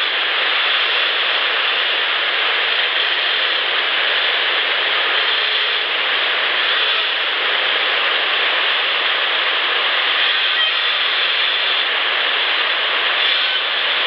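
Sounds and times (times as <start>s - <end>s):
distant highway traffic hiss: 0.0s - 14.0s.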